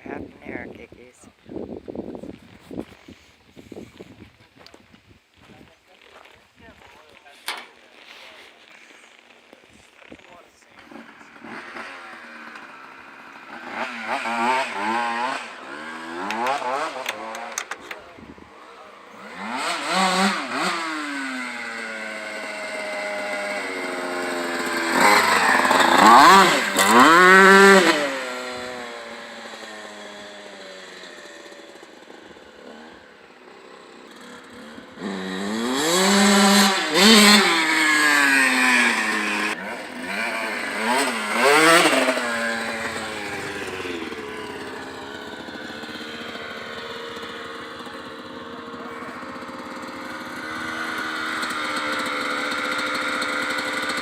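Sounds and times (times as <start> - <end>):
two-stroke motorcycle engine revving: 10.7 - 54.0.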